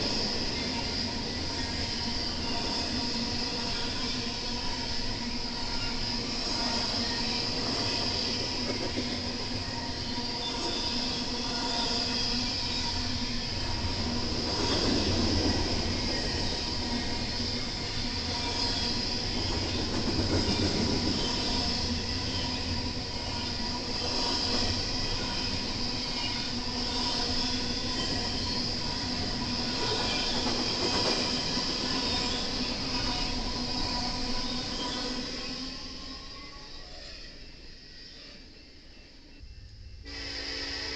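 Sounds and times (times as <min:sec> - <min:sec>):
freight train wheels rumbling: 0:00.0 - 0:37.7.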